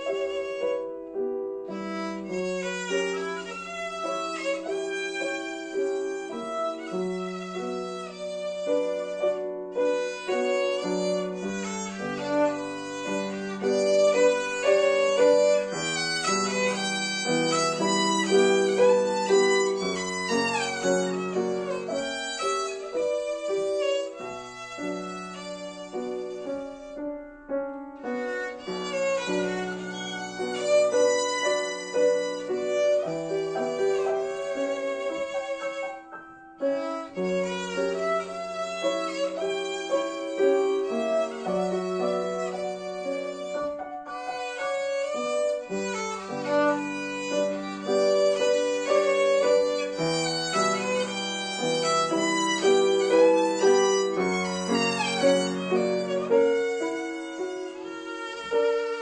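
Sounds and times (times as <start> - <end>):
piano accompaniment: 0.0 - 59.0
violin playing bowed melody: 0.0 - 59.0.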